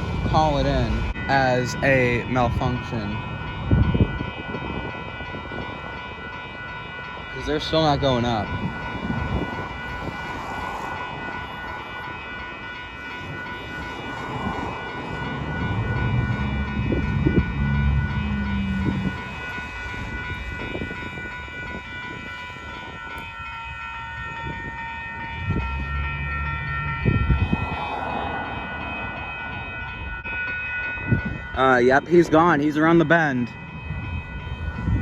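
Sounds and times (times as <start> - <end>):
crossing warning bells ringing: 0.0 - 35.0.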